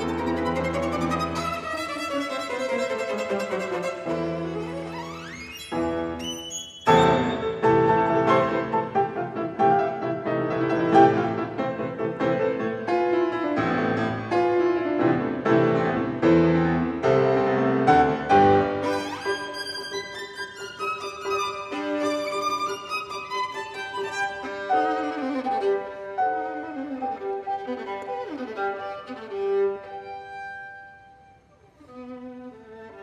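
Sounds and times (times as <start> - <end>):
grand piano: 0.0 - 33.0
violin: 0.0 - 33.0.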